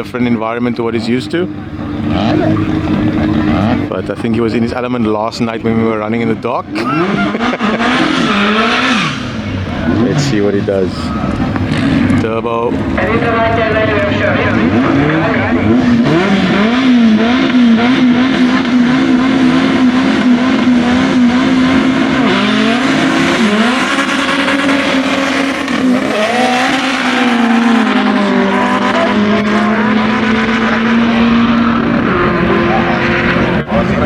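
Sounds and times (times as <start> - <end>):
car engine revving hard: 0.6 - 4.4, 6.6 - 34.0.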